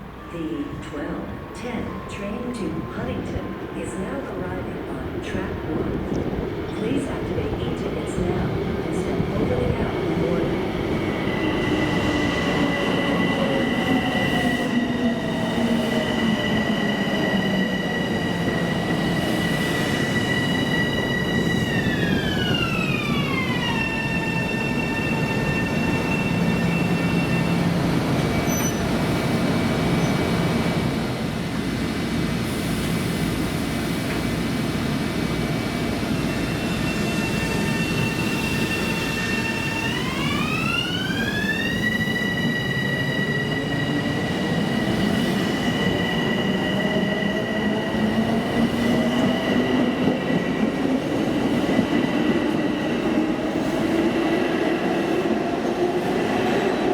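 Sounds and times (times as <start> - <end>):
electric train propulsion whining: 0.8 - 56.9.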